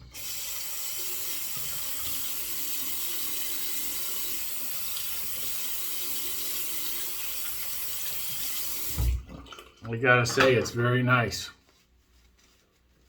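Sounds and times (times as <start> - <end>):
tap water running into sink: 0.0 - 10.8.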